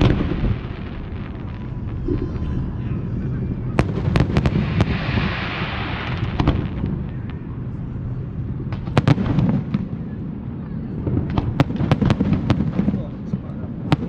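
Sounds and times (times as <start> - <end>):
fireworks bangs and crackles: 0.0 - 14.0
low rumble of fireworks display: 0.0 - 14.0.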